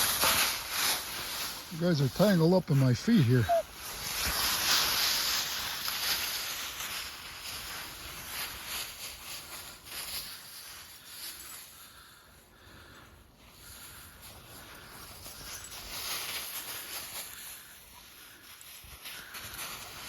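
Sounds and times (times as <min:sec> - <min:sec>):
dry leaves rustling and crunching: 0:00.0 - 0:11.7, 0:14.5 - 0:20.0.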